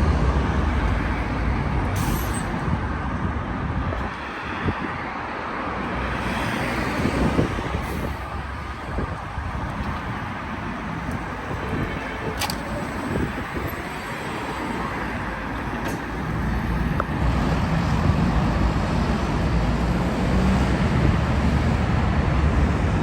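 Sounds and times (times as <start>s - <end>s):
bus engine rumble: 0.0s - 23.0s
traffic noise: 0.0s - 23.0s.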